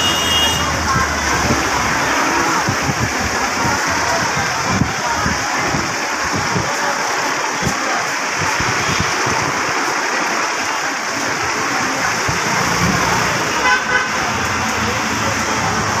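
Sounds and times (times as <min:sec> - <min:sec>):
crowd noise: 0:00.0 - 0:16.0
road traffic: 0:00.0 - 0:16.0.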